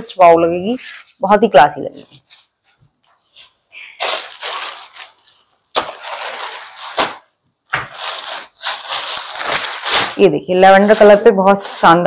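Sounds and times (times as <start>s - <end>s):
fabric rustling: 0.7s - 7.3s, 7.9s - 12.0s.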